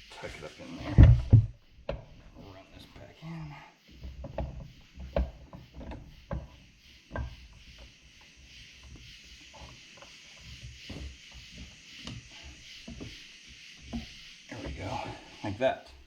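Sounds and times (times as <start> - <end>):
faint steady hiss: 0.0 - 16.0
rubbing: 0.0 - 16.0.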